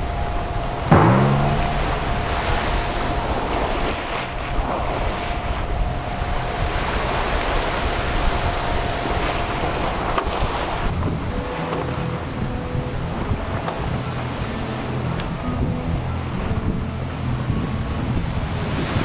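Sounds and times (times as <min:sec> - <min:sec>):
boat engine humming: 0:00.0 - 0:19.0
sea rushing past boat: 0:00.0 - 0:19.0
wind buffeting microphone: 0:00.0 - 0:19.0.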